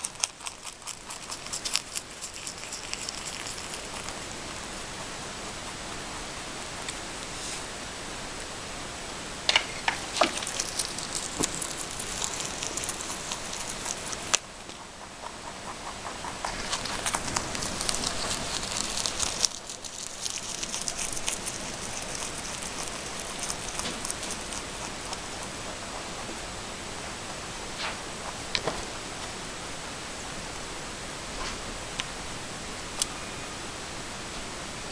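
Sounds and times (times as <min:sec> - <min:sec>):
rabbit chewing leaves: 0:00.0 - 0:29.8
faint steady hiss: 0:00.0 - 0:34.9.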